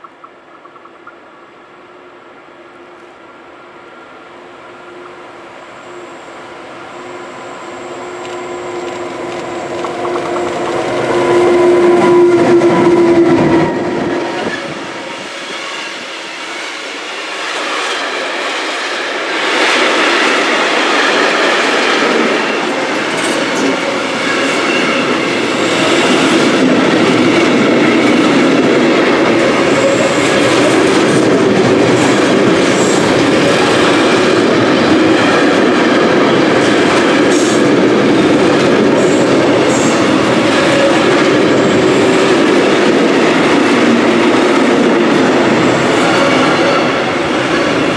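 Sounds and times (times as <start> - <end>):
electric locomotive tone: 0.0 - 47.9.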